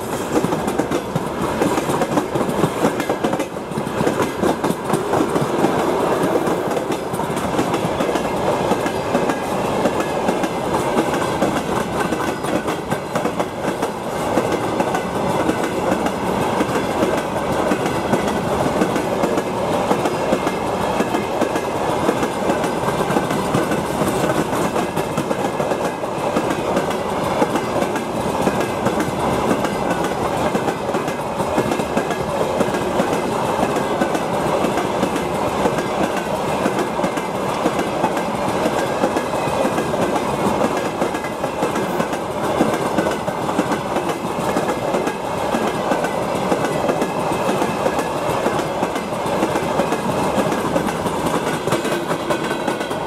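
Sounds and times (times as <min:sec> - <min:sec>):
freight train wheels on rails: 0:00.0 - 0:53.0.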